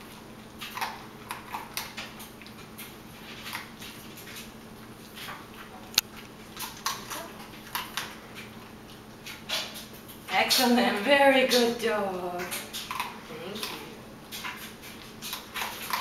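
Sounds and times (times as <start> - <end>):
puppy crunching dry kibble: 0.0 - 16.0.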